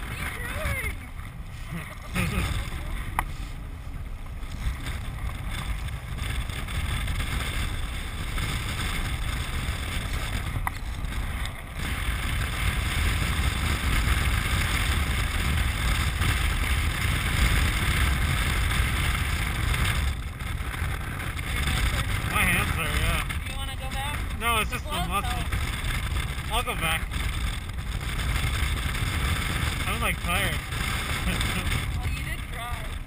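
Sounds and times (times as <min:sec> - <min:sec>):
wheels rolling rumble: 0:00.0 - 0:33.0
wind rush on microphone: 0:00.0 - 0:33.0.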